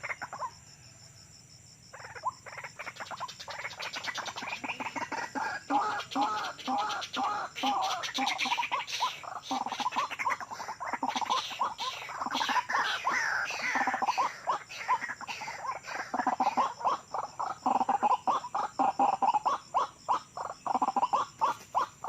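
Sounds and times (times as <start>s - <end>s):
waterhens calling: 2.0s - 22.0s.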